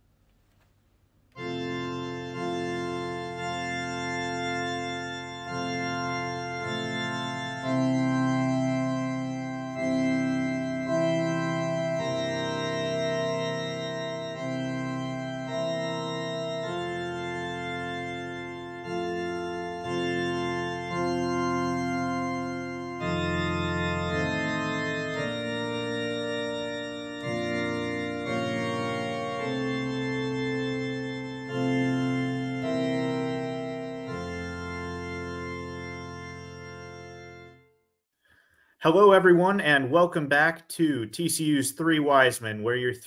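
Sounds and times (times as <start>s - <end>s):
intro music of held chords: 1.4s - 37.7s.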